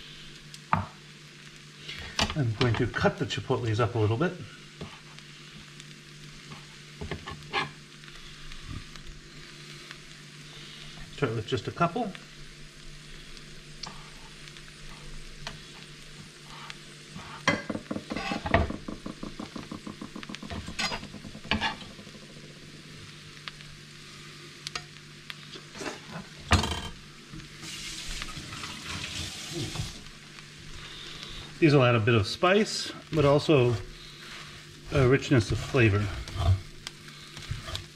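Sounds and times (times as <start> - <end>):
beans and onions sizzling in fat: 0.0 - 37.9.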